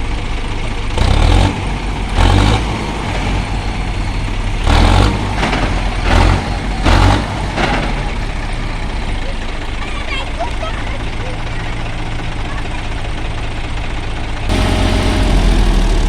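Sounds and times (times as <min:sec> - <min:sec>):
heavy diesel machinery engine: 0:00.0 - 0:16.0.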